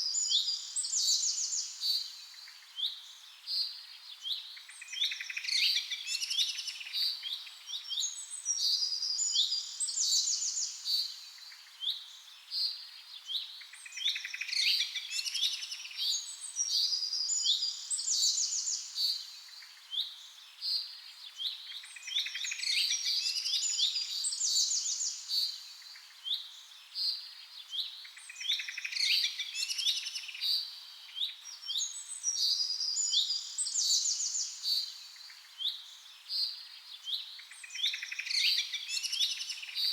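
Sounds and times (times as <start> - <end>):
songbirds chirping and trilling: 0.1 - 39.9.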